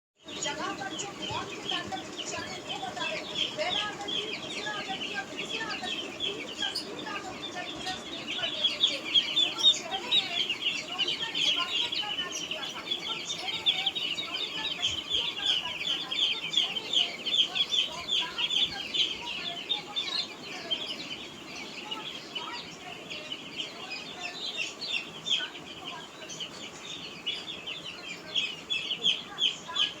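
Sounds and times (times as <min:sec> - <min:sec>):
chicks peeping: 0:00.2 - 0:30.0.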